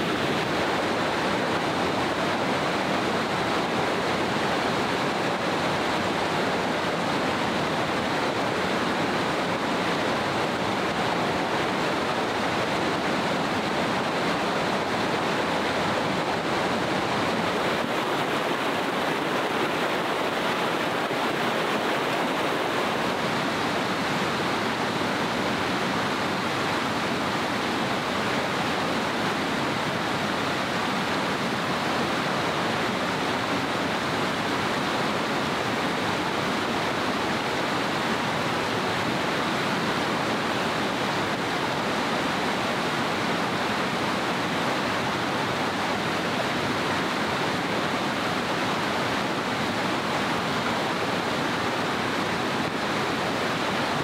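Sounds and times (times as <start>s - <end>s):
rushing mountain water: 0.0s - 54.0s.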